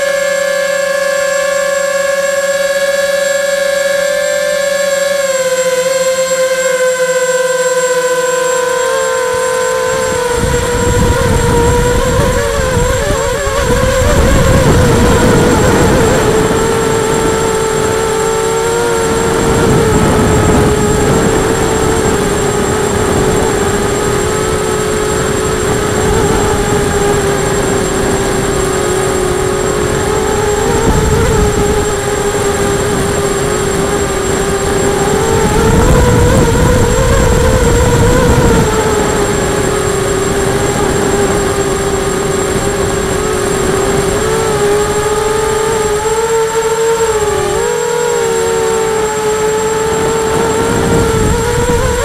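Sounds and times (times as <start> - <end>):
model aircraft motor droning: 0.0 - 52.0
wind rush on microphone: 0.0 - 52.0.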